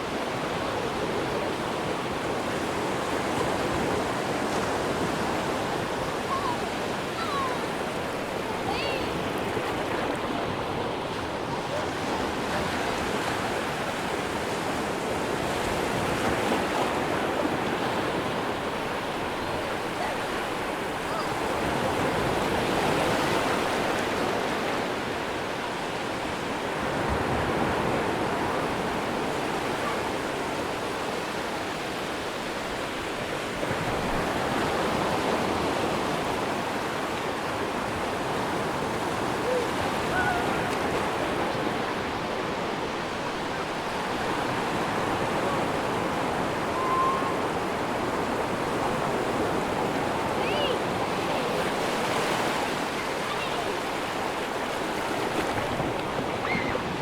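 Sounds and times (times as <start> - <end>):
surf breaking on beach: 0.0 - 57.0.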